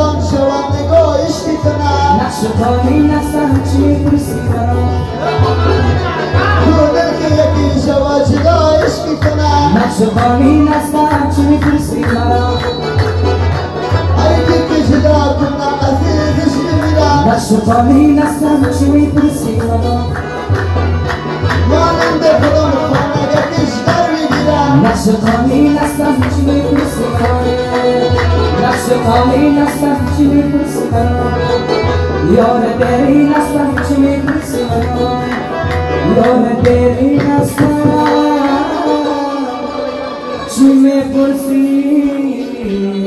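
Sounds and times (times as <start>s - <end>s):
drumming: 0.0s - 39.1s
sliding melody line: 0.0s - 43.0s.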